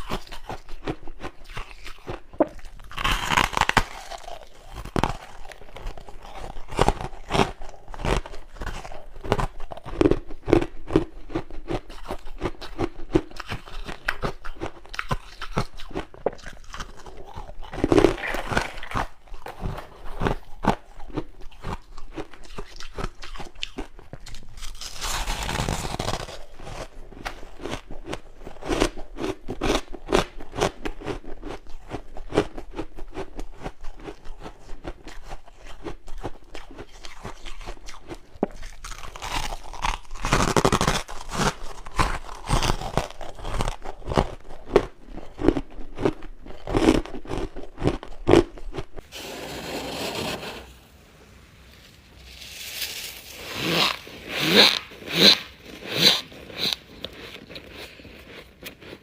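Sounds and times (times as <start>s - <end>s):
crunching and chewing frost: 0.0s - 49.1s, 52.6s - 59.0s.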